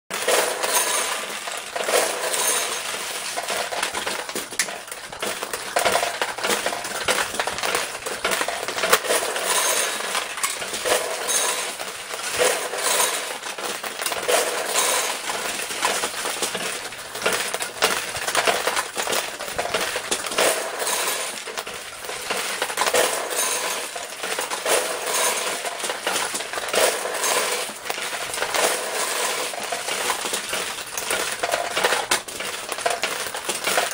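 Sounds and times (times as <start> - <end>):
steel balls clattering on pins: 0.1 - 33.9.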